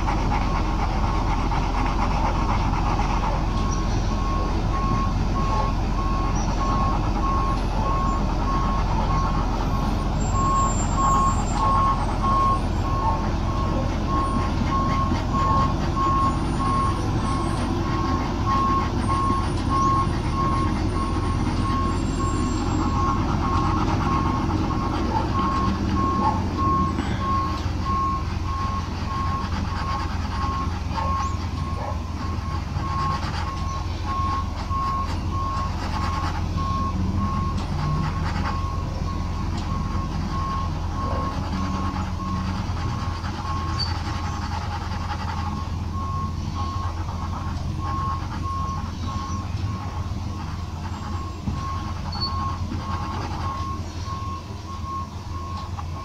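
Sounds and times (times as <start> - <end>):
low steady rumble: 0.0 - 56.0.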